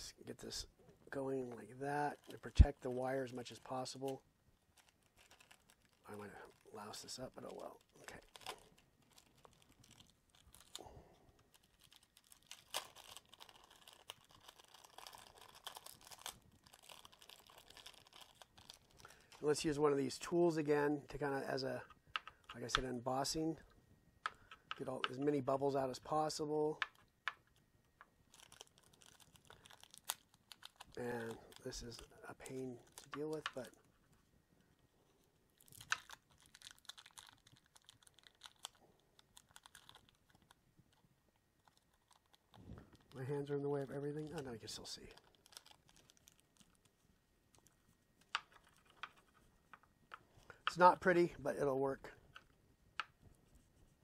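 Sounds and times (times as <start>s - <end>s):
tape crinkling and crackling: 0.1s - 54.0s.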